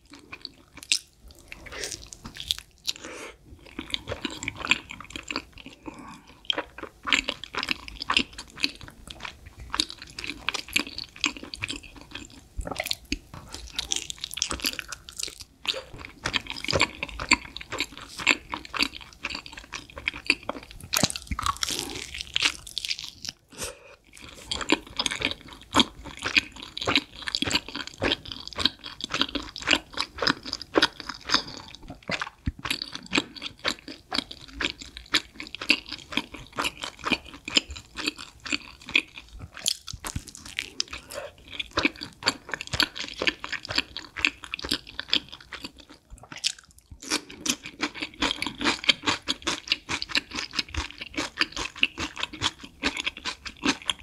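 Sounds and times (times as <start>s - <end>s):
chewing pizza: 0.0s - 54.0s.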